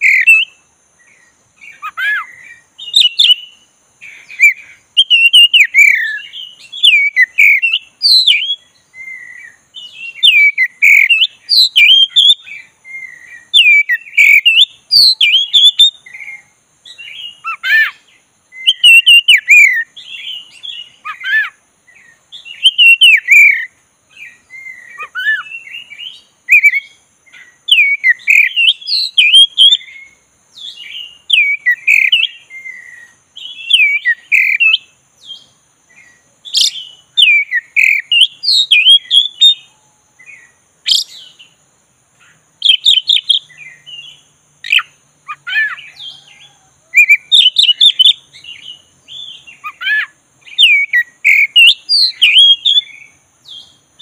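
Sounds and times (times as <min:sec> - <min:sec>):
bird singing whistled phrases: 0:00.0 - 0:00.6, 0:01.6 - 0:41.5, 0:42.6 - 0:53.8.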